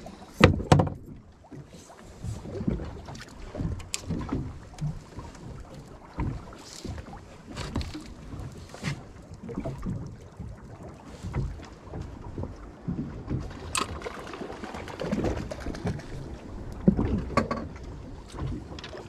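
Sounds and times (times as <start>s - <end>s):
water against boat hull: 0.0s - 19.0s.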